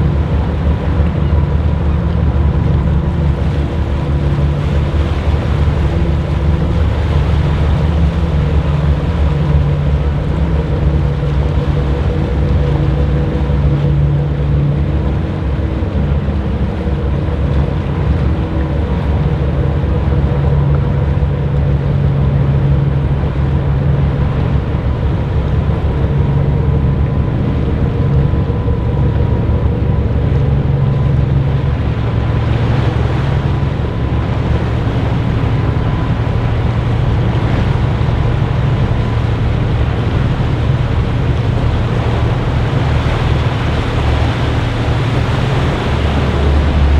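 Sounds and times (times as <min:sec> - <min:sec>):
faint steady whine: 0:00.0 - 0:46.9
ship engines humming: 0:00.0 - 0:46.9
water churning: 0:00.0 - 0:46.9
wind buffeting microphone: 0:00.0 - 0:46.9.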